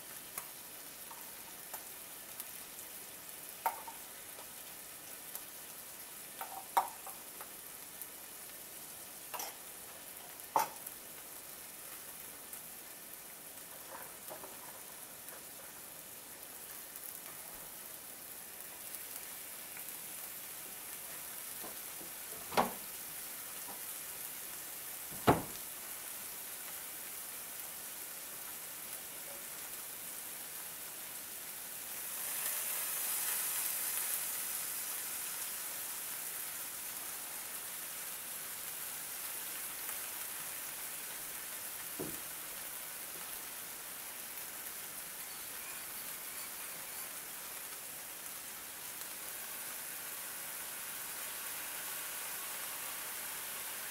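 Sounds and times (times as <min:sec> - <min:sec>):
prawns sizzling in a skillet: 0:00.0 - 0:53.9.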